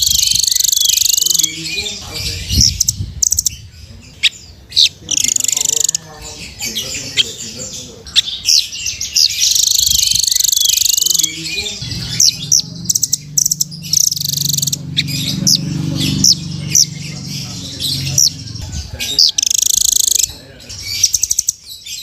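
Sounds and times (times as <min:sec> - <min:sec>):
bird buzzy trill: 0:00.0 - 0:07.5, 0:08.2 - 0:22.0
bird high chirps: 0:00.0 - 0:22.0.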